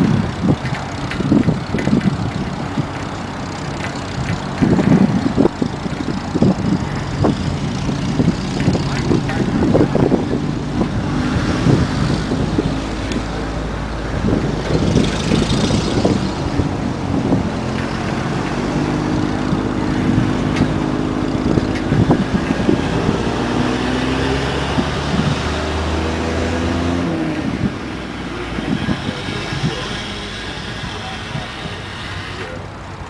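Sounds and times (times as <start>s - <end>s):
old vehicle engines running slowly: 0.0s - 33.0s.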